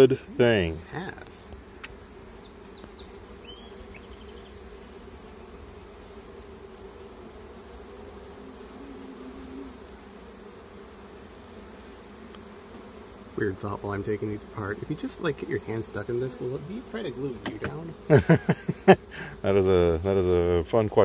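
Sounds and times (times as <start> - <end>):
honeybees humming: 0.0 - 21.0.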